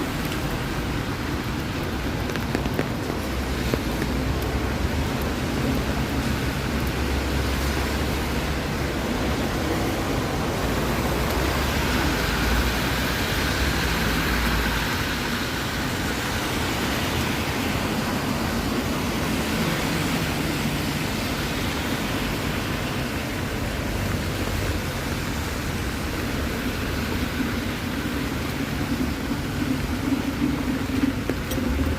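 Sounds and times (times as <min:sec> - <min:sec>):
traffic going by: 0:00.0 - 0:31.9.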